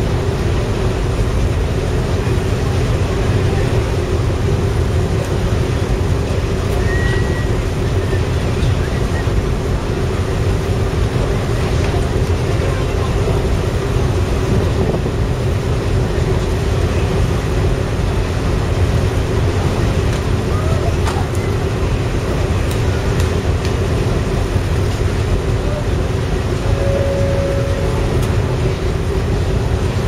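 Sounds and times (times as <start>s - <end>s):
ferry machinery rumbling: 0.0s - 30.0s.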